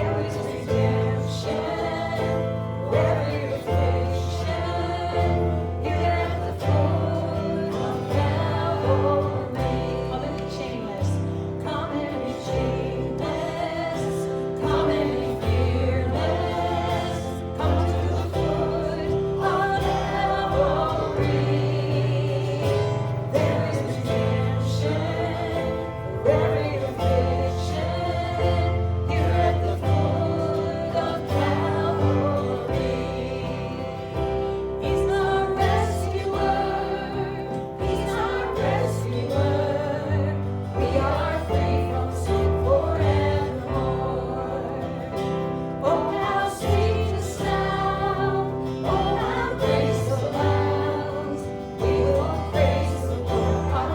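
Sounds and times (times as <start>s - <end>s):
group singing worship song: 0.0s - 53.9s.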